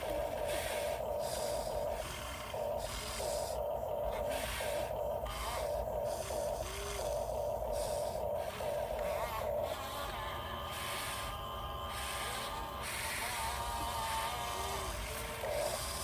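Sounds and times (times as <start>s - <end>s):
hiss: 0.0s - 16.0s
toy truck motor whine: 0.0s - 16.0s.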